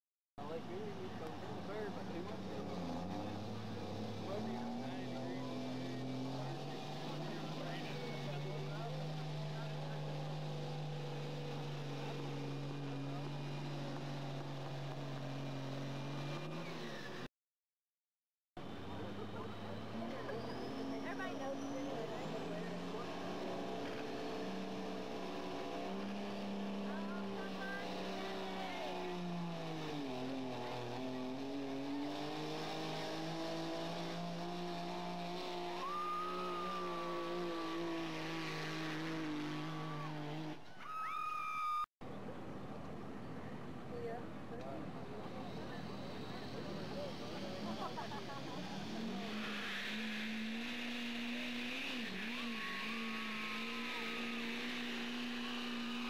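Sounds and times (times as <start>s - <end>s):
pickup engine at high revs: 0.4s - 17.3s, 18.6s - 40.7s, 45.2s - 56.0s.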